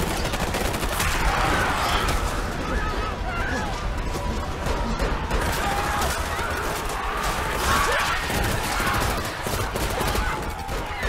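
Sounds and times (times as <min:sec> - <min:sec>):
gunfire: 0:00.0 - 0:11.0
people screaming: 0:00.5 - 0:11.0.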